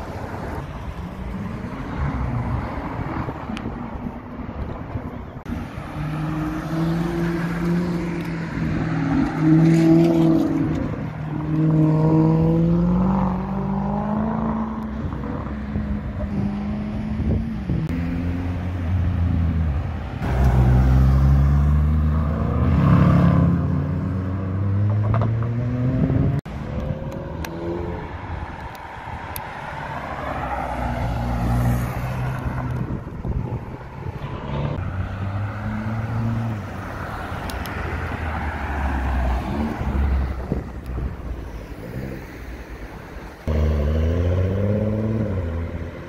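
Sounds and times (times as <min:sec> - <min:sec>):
sports car engines accelerating: 0:04.7 - 0:42.4, 0:43.3 - 0:46.0.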